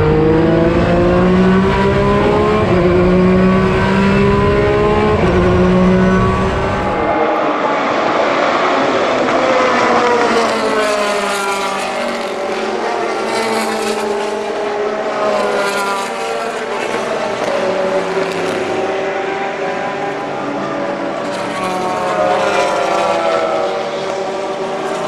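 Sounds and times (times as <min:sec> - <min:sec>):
racing car engine revving: 0:00.0 - 0:25.0.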